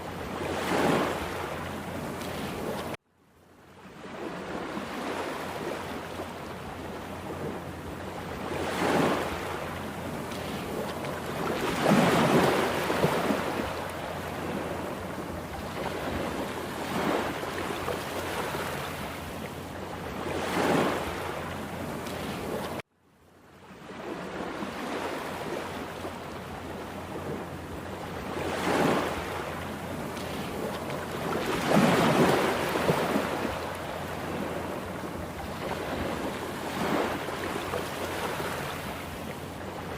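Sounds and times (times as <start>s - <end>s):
waves crashing in heavy surf: 0.0s - 3.0s, 3.6s - 22.9s, 23.6s - 39.9s.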